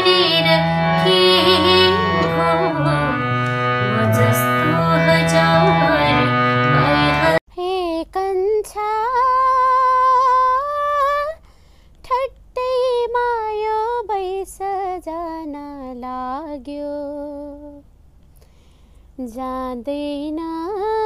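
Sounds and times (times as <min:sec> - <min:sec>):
woman singing unaccompanied: 0:00.0 - 0:11.4, 0:12.1 - 0:17.8, 0:19.2 - 0:21.0.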